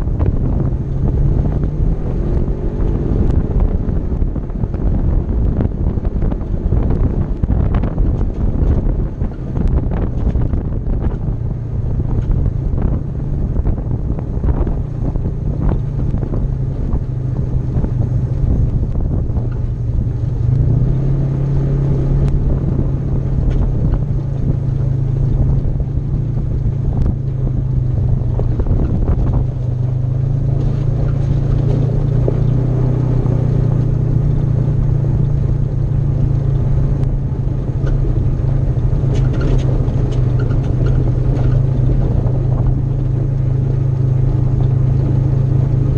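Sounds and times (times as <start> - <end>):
engine droning: 0.0 - 45.9
gravel ticking under tyres: 0.0 - 45.9.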